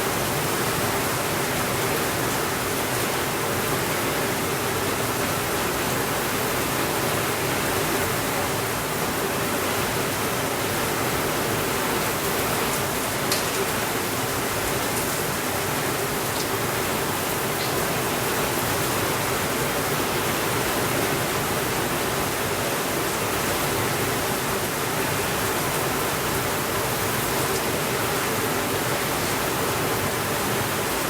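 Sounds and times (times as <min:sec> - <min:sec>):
heavy rain on a window: 0:00.0 - 0:31.0.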